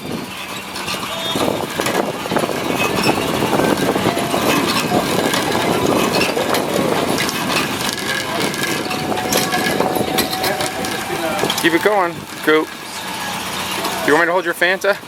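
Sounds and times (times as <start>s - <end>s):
crank and cable clatter: 0.0s - 15.0s
vehicle engine idling: 0.0s - 15.0s.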